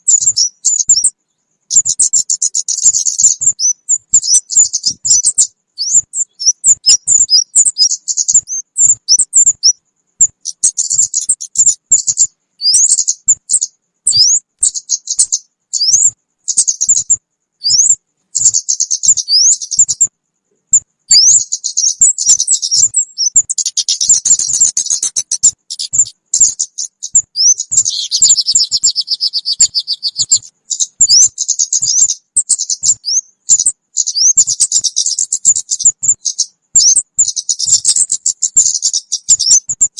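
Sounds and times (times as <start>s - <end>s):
high-pitched bird chirps: 0.0s - 20.1s, 20.7s - 39.9s.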